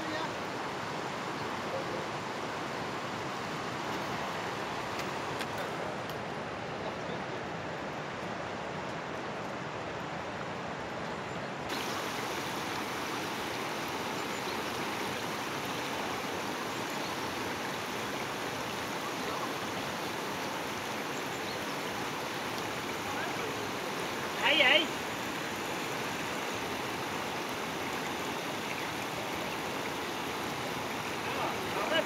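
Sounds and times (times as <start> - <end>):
river rushing over rocks: 0.0 - 32.0.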